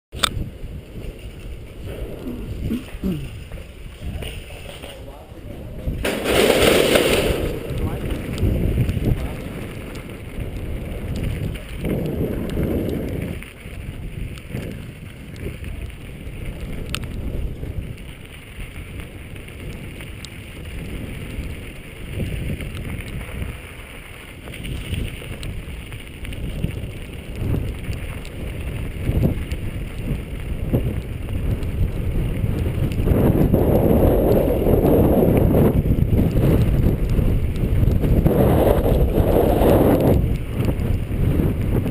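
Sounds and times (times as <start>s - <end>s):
bike rattle and tyre noise: 0.1s - 41.9s
wind buffeting microphone: 0.1s - 41.9s.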